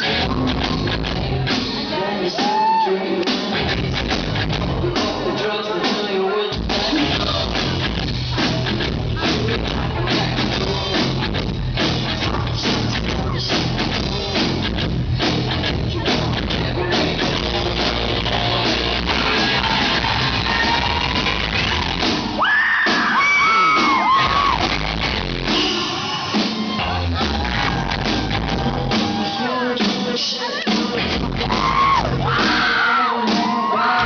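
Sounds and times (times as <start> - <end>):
high held vocal: 0.0 - 11.4, 12.0 - 34.0
drums beating: 0.0 - 34.0
rock band playing live: 0.0 - 34.0.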